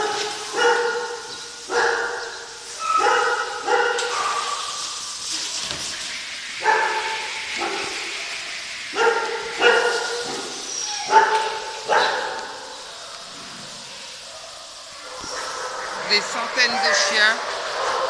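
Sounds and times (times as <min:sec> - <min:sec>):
dogs barking: 0:00.0 - 0:05.2, 0:06.5 - 0:18.0.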